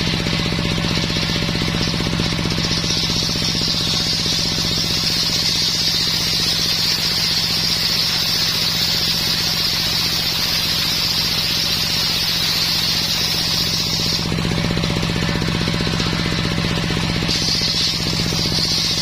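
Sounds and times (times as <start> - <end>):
engine running: 0.0 - 19.0
saw blade hissing through wood: 0.8 - 19.0.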